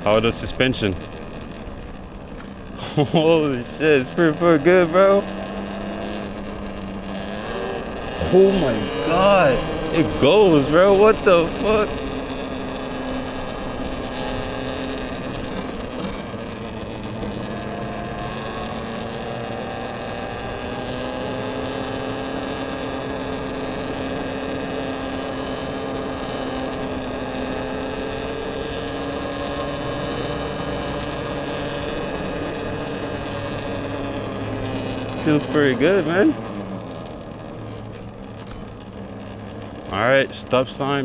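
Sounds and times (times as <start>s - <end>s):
electric motor whine: 0.0s - 41.0s
steady rushing noise: 0.0s - 41.0s.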